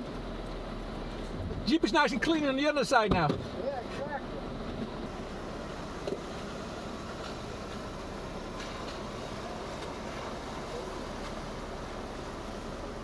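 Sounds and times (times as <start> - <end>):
car engine running: 0.0 - 13.0
rushing water noise: 0.0 - 13.0.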